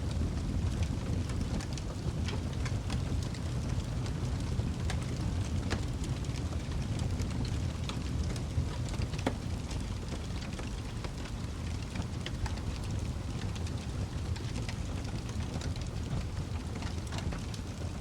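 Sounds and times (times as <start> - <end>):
fire popping and snapping: 0.0 - 18.0
low rumble of flames: 0.0 - 18.0.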